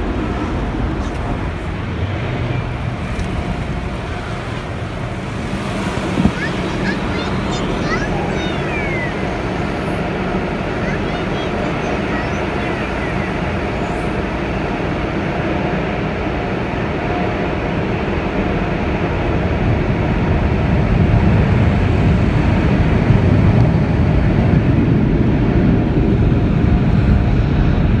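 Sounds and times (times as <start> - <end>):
car wash air blowers rushing: 0.0 - 28.0.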